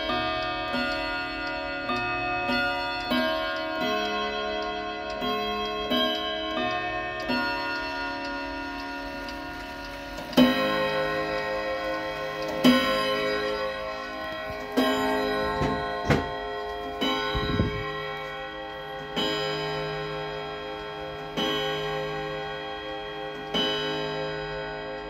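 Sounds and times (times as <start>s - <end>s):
clock striking gong rods: 0.0s - 25.0s
clock ticking: 0.0s - 25.0s.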